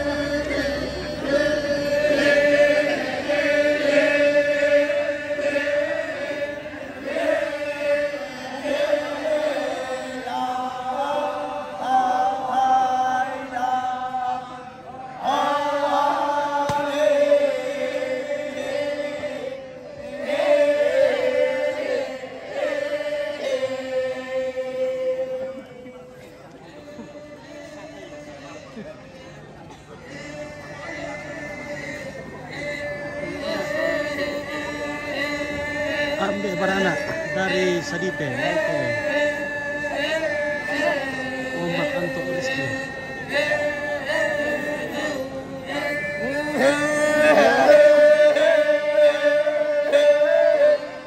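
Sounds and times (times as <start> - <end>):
group chanting in long notes: 0.0 - 51.0.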